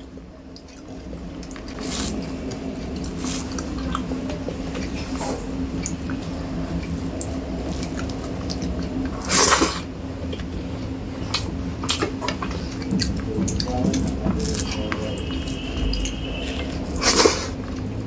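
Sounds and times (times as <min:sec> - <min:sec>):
steady low hum: 0:00.0 - 0:18.0
wet eating squishes: 0:00.0 - 0:18.0.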